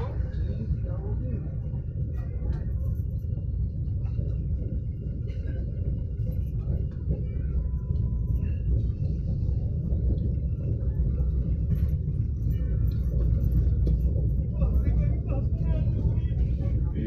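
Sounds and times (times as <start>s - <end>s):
faint voices: 0.0s - 17.0s
train rumble inside coach: 0.0s - 17.0s.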